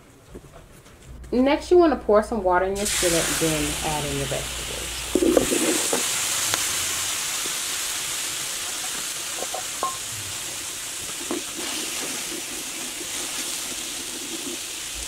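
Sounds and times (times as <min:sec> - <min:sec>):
vegetables sizzling in a skillet: 0:02.8 - 0:15.0.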